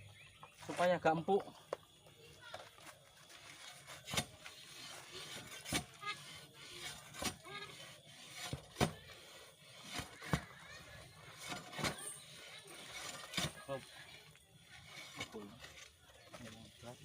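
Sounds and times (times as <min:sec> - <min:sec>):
auger scraping and grinding soil: 0:02.5 - 0:17.0.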